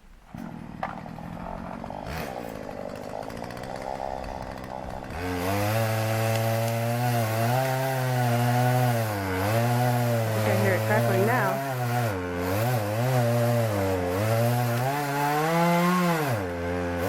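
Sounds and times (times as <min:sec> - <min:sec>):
chainsaw cutting tree trunk: 0:00.3 - 0:17.0
chainsaw idling: 0:00.3 - 0:17.0.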